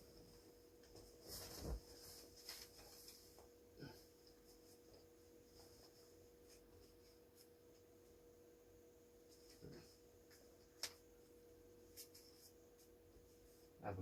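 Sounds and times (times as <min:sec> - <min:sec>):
soft rustles: 0:00.0 - 0:08.1, 0:09.2 - 0:13.8
faint steady hum: 0:00.0 - 0:14.0.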